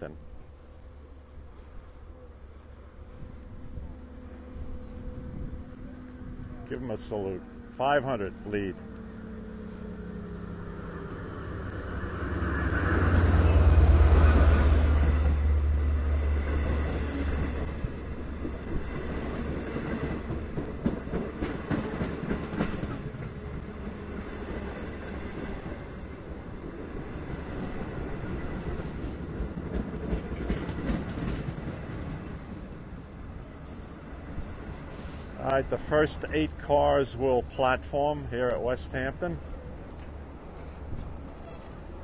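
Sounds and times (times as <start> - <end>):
diesel locomotive engine passing: 0.0 - 42.0.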